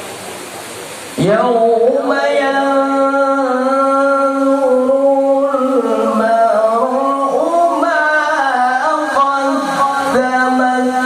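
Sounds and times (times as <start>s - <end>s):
person reciting melodically: 1.2s - 11.0s.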